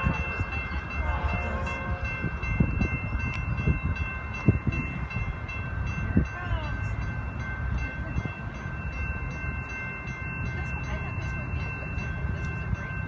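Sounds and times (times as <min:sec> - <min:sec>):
crossing warning bells ringing: 0:00.0 - 0:13.0.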